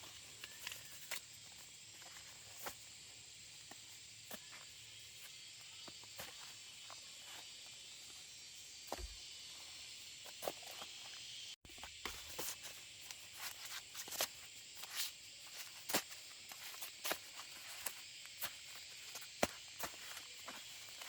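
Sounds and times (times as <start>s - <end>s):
insect hiss: 0.0s - 21.0s.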